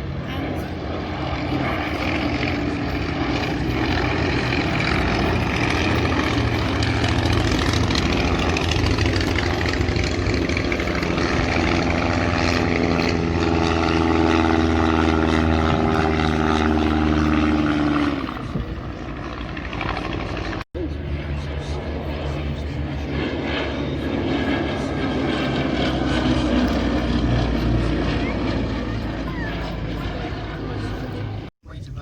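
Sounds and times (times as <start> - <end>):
propeller aircraft engine drone: 0.0 - 32.0.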